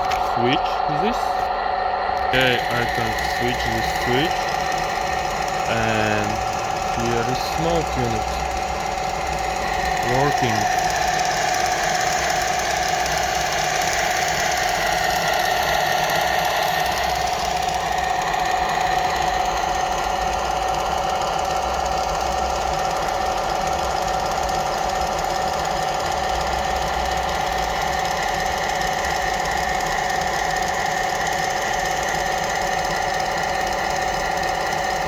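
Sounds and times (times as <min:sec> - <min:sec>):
toy tank mechanical buzzing rattle: 0:00.0 - 0:35.0.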